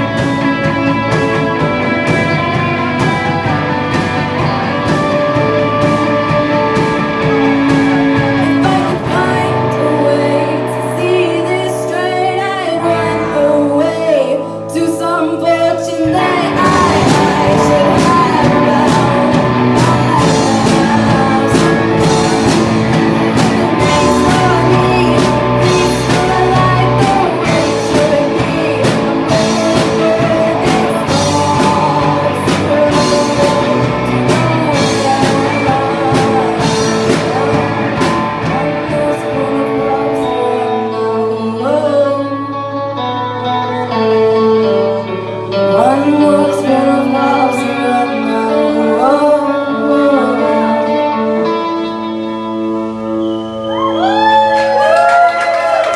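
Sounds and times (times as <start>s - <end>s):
rock song with sung vocal: 0.0s - 55.9s.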